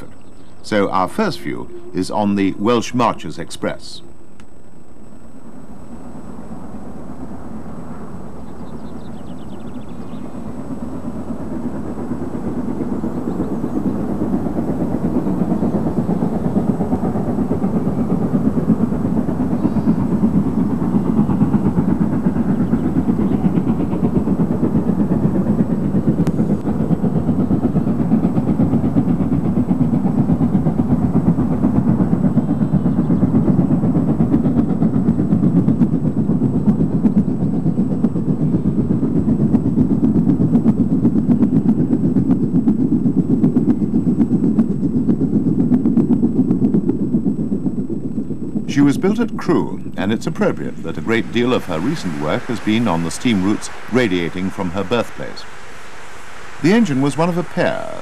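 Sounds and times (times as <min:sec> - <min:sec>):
steam locomotive exhaust beat: 0:00.0 - 0:04.3, 0:05.4 - 0:58.0.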